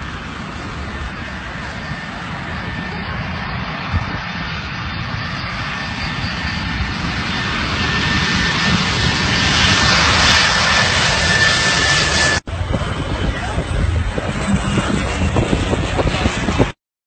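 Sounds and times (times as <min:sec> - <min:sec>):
airplane engine noise: 0:00.0 - 0:16.8.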